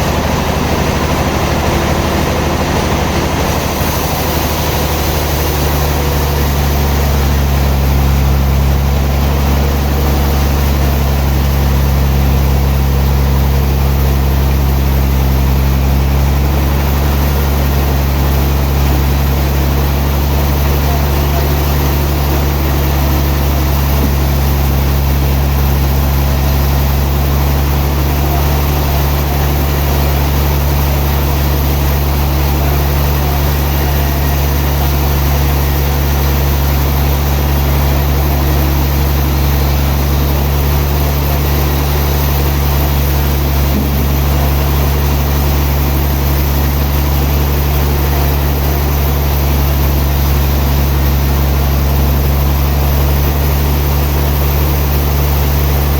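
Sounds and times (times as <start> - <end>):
sawmill machinery humming: 0.0 - 55.9.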